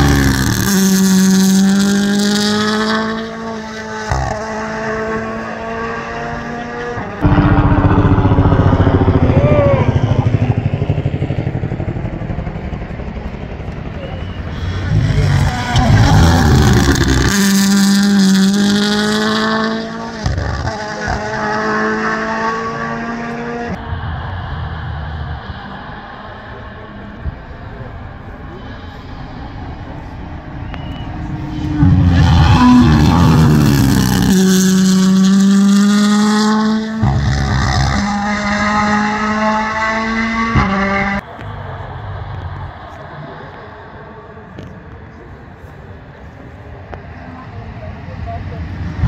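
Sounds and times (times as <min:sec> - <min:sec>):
rally car engine passing at speed: 0:00.0 - 0:45.0.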